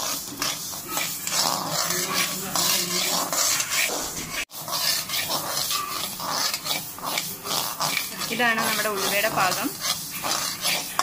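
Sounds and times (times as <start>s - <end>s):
spoon scraping metal pan: 0.0s - 11.0s.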